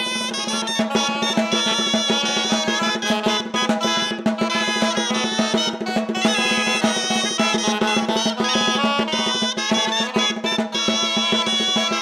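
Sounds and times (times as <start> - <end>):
drum beat with snare rolls: 0.0 - 12.0
live band playing: 0.0 - 12.0.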